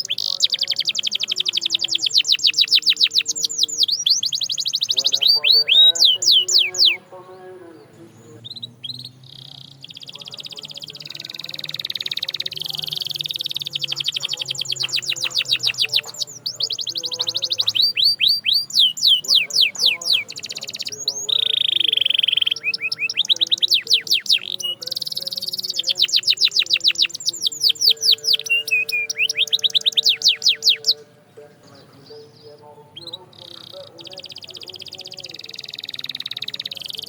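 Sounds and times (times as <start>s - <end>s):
canary singing: 0.0s - 37.0s.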